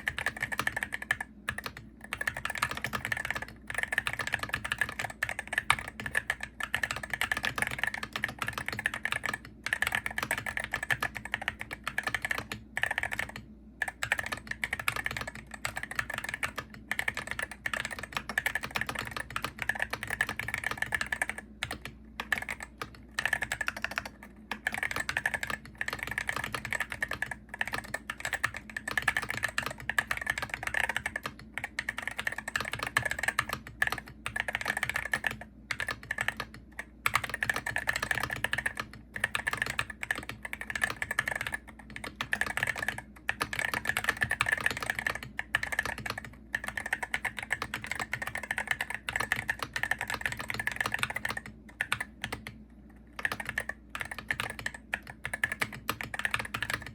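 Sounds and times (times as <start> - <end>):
fast keyboard typing: 0.0 - 56.9.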